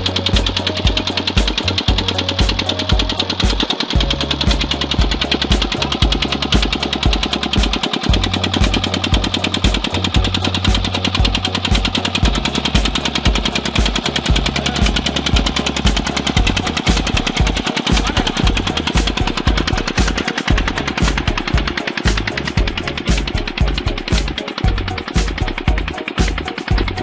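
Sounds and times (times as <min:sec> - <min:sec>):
diesel engine knocking: 0:00.0 - 0:27.0
music with heavy bass line: 0:00.0 - 0:27.0.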